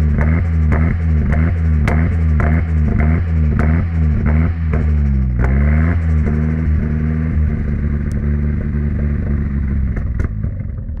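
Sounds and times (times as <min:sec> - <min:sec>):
car engine idling: 0:00.0 - 0:11.0
car engine revving down: 0:00.0 - 0:11.0.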